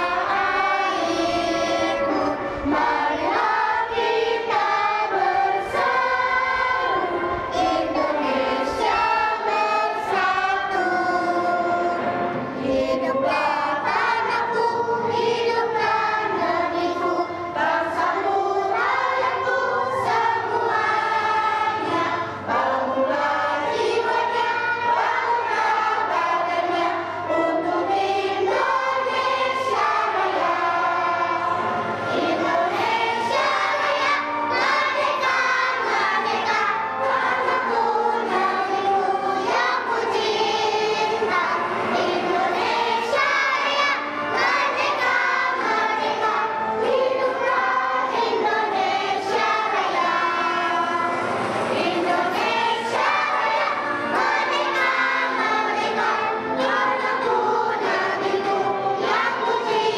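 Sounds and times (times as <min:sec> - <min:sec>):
children singing in chorus: 0:00.0 - 0:59.9.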